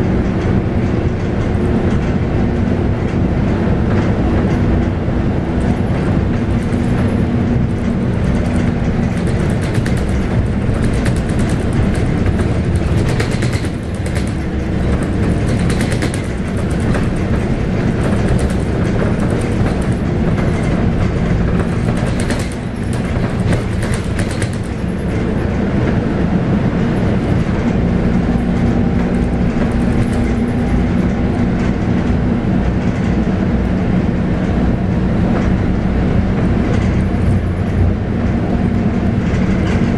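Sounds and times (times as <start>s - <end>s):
bus body rattling: 0.0s - 39.9s
bus diesel engine: 0.0s - 39.9s
road noise rumble: 0.0s - 39.9s.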